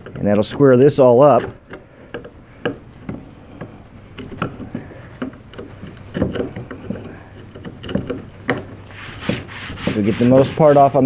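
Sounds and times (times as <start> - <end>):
chisel scraping wood: 0.0 - 11.0.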